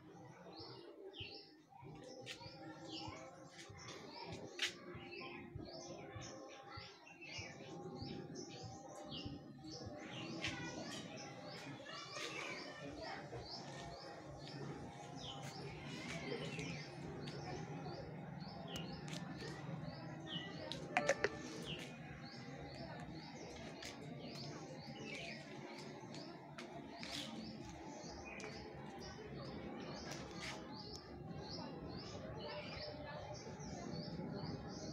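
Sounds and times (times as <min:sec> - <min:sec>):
small birds chirping: 0:00.7 - 0:34.9.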